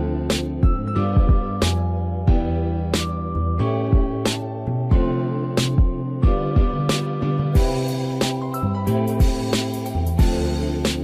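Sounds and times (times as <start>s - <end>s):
music with drum beat and bass: 0.0s - 11.0s.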